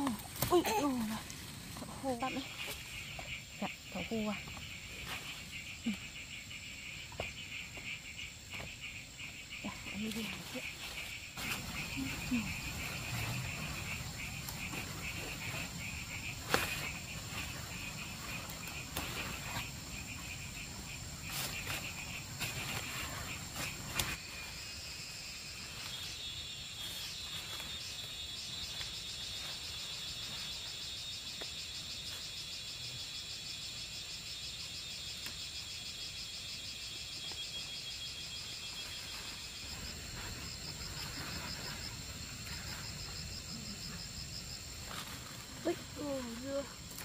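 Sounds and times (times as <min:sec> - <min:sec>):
insects high buzz: 0:00.0 - 0:47.0
lower insect trill: 0:00.0 - 0:47.0
rapid pulsing insect trill: 0:00.0 - 0:47.0.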